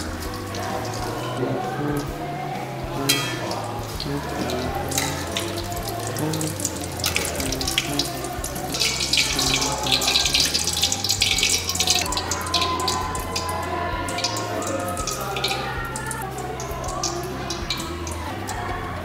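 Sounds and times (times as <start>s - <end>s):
food frying in hot oil: 0.0s - 2.1s, 2.8s - 18.8s.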